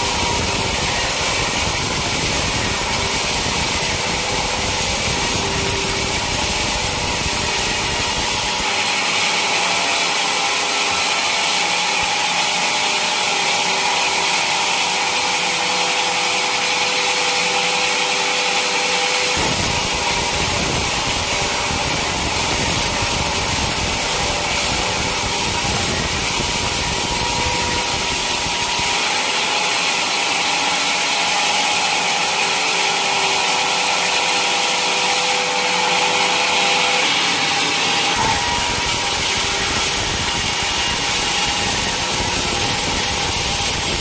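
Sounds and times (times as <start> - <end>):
sawmill saw cutting log: 0.0 - 44.0.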